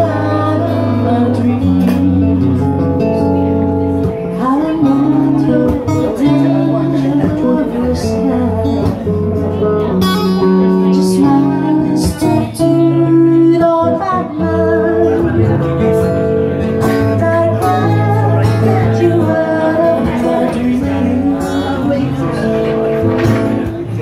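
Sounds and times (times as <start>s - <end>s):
woman singing into microphone: 0.0s - 23.7s
guitars strumming and picking: 0.0s - 24.0s.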